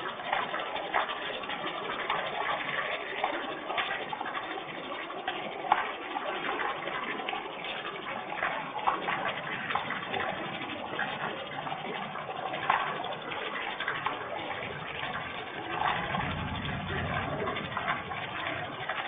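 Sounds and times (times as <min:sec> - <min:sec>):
steady rain pattering: 0:00.0 - 0:19.0.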